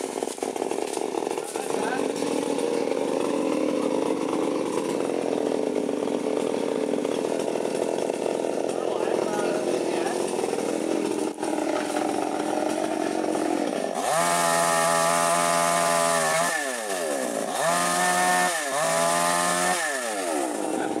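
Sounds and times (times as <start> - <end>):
mini chainsaw revving: 0.0 - 21.0.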